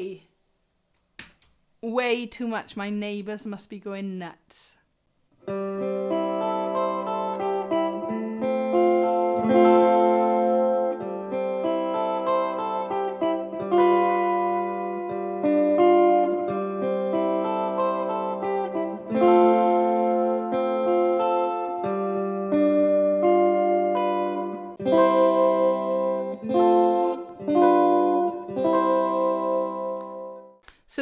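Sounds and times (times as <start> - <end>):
electric ukulele chords through amp: 5.5 - 30.5.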